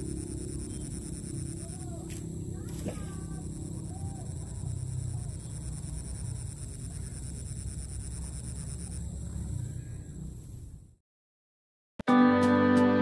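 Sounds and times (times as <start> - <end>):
faint high pulsing whine: 0.0 - 11.0.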